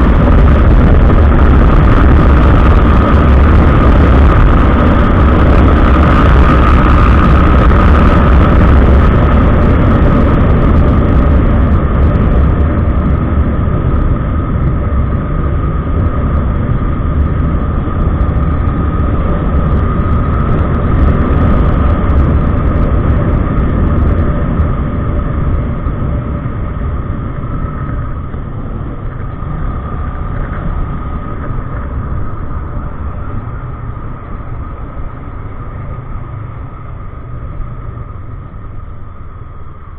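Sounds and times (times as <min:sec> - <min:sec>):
motorcycle engine running: 0:00.0 - 0:39.9
steady tone: 0:00.0 - 0:39.9
wind rush on microphone: 0:00.0 - 0:39.9.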